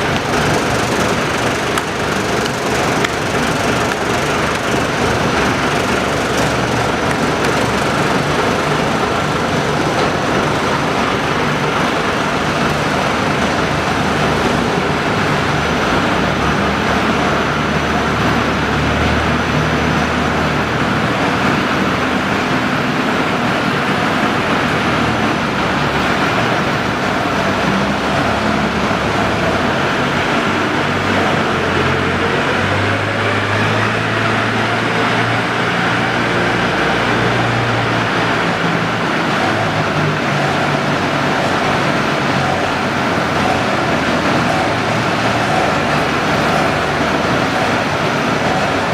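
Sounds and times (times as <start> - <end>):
industrial machinery rumbling: 0.0 - 48.9.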